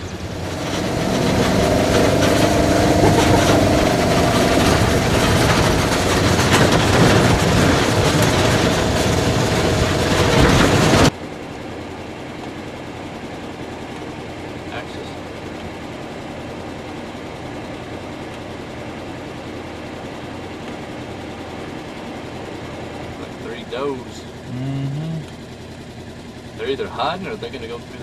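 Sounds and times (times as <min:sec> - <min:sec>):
vehicle rattling: 0:00.0 - 0:11.2, 0:12.4 - 0:28.0
vehicle engine running: 0:00.0 - 0:28.0.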